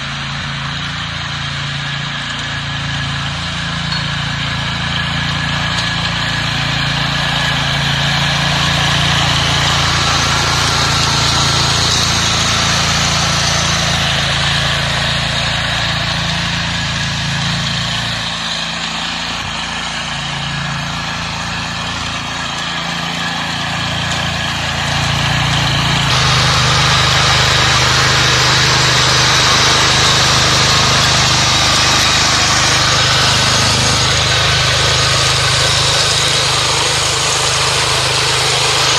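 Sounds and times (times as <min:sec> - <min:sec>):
power tiller engine running: 0:00.0 - 0:38.9
tines churning soil: 0:00.0 - 0:38.9.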